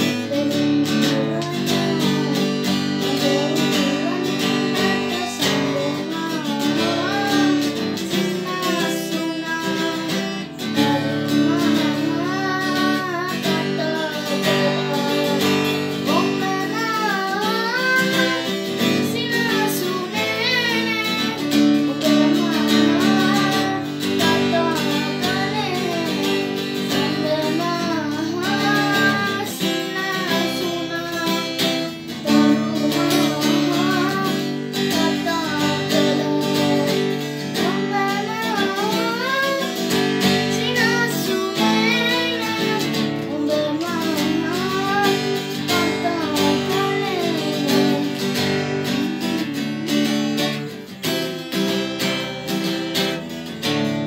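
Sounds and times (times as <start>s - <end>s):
acoustic guitar strumming: 0.0s - 54.0s
boy singing: 0.0s - 54.0s.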